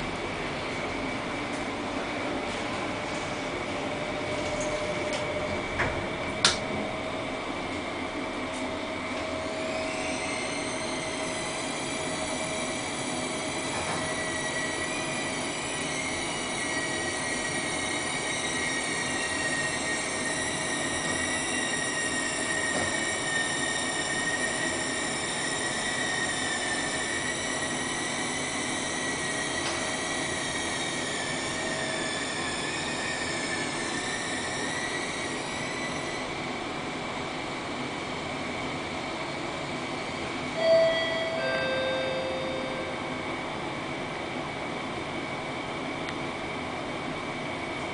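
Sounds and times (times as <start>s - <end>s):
elevator drive whine: 0.0s - 47.9s.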